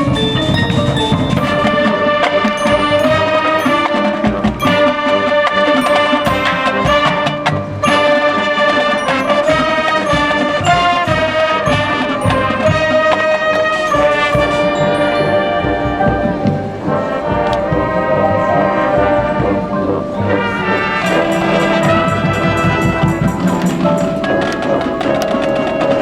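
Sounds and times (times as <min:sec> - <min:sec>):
brass sustained chords: 0:00.0 - 0:26.0
drumline strokes: 0:00.0 - 0:26.0.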